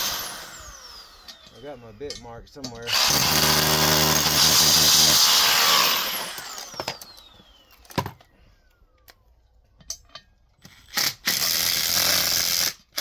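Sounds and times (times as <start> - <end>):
cordless drill whining: 0.0 - 2.1, 2.8 - 9.2, 10.6 - 13.0.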